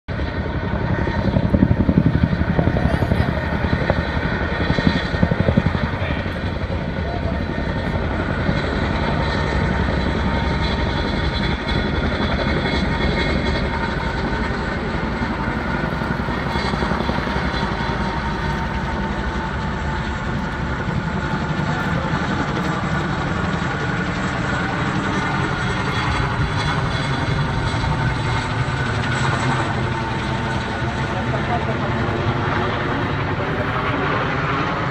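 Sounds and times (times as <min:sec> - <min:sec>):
helicopter rotor and engine: 0:00.1 - 0:34.9.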